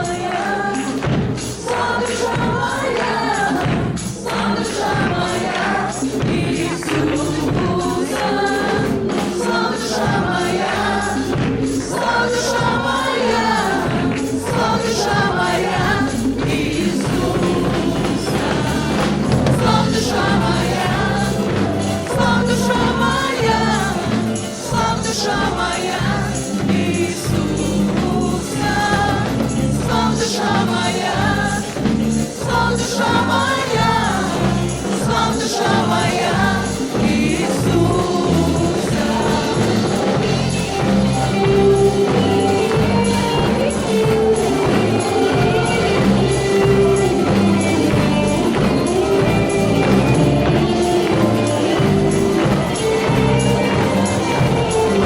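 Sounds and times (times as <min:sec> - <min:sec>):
band with a steady beat: 0:00.0 - 0:55.0
many voices singing together: 0:00.0 - 0:55.0.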